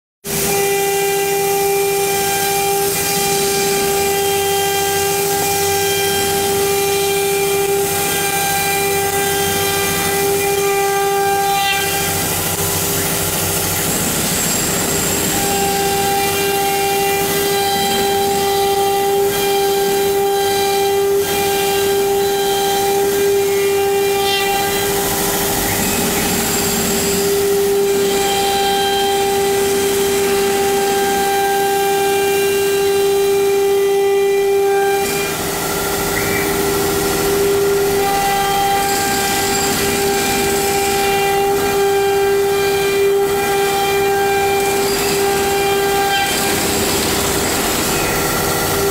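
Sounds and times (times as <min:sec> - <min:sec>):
rough cutting noise: 0:00.3 - 0:48.9
router spindle whining: 0:00.3 - 0:48.9.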